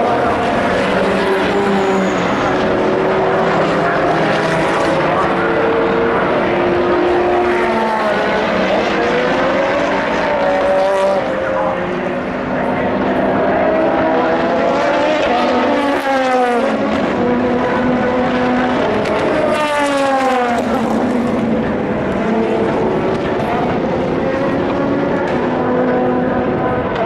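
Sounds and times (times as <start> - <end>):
race car passing by: 0.0 - 27.0
race cars running: 0.0 - 27.0.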